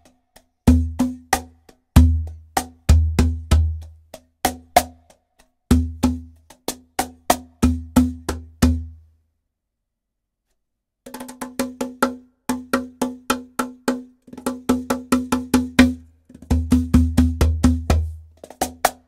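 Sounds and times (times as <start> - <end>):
hand-played cajon groove: 0.0 - 5.1, 5.7 - 8.9, 11.1 - 19.0.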